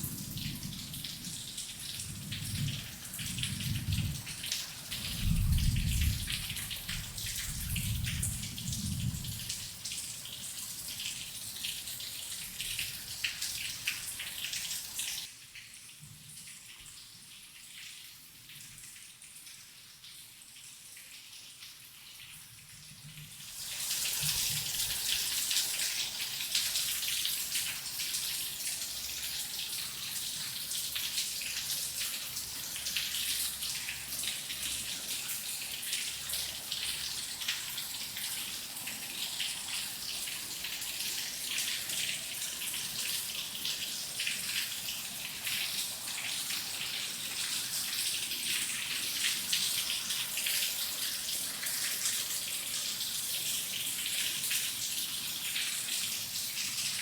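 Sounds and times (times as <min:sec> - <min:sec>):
rain falling: 0:00.0 - 0:15.3, 0:23.4 - 0:57.0.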